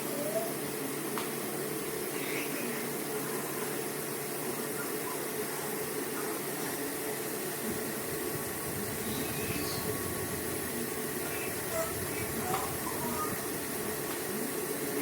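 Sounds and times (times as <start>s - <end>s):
air cooler fan whooshing: 0.0s - 15.0s.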